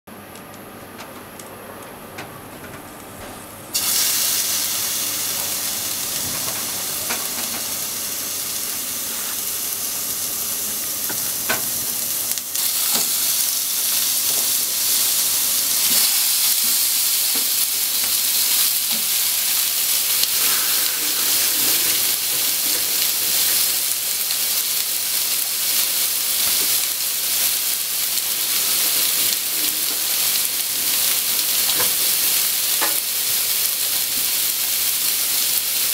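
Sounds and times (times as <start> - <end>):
meat sizzling in a frying pan: 3.7 - 35.9.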